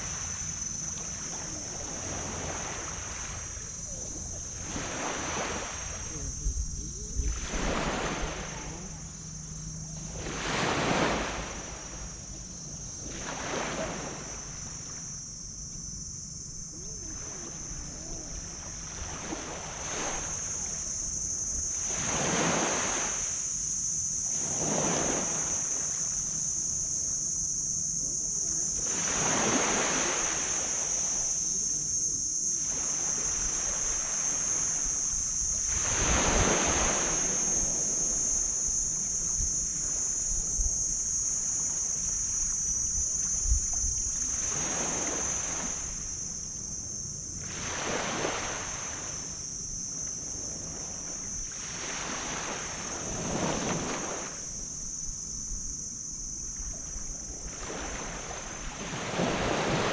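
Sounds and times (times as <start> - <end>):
small waves breaking on beach: 0.0 - 59.9
steady high-pitched hiss: 0.0 - 59.9.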